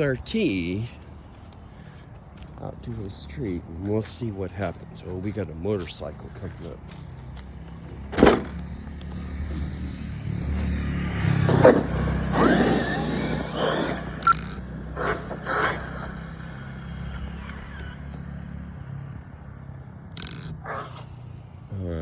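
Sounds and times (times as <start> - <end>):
motorcycle engine passing: 2.3 - 21.3.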